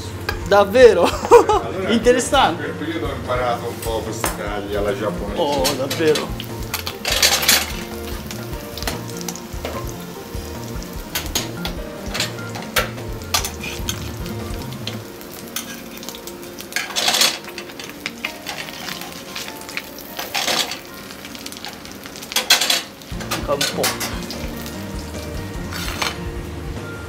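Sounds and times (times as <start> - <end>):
fish skin sizzling in butter: 4.8 - 27.0.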